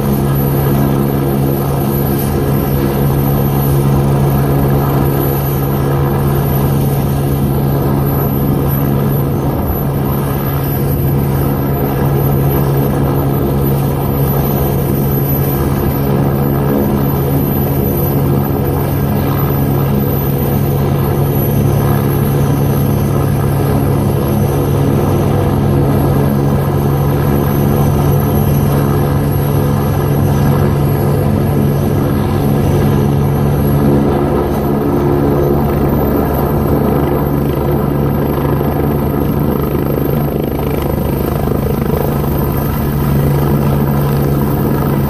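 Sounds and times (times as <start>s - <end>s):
helicopter running with rotor turning: 0.0s - 45.0s.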